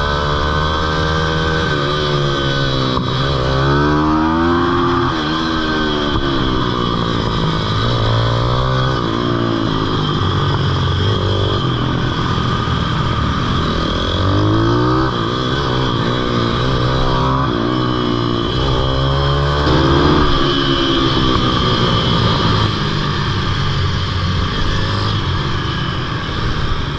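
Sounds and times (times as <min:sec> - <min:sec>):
small motorbike engine revving: 0:00.0 - 0:26.9.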